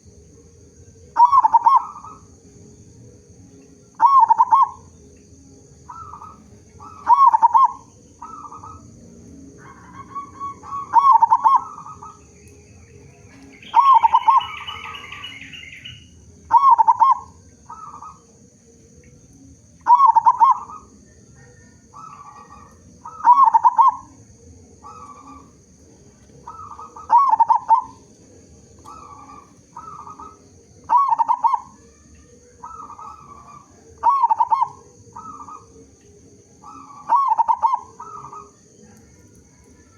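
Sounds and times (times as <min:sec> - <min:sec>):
dove cooing: 0:00.9 - 0:02.8, 0:03.9 - 0:05.0, 0:05.7 - 0:18.5, 0:19.8 - 0:39.9.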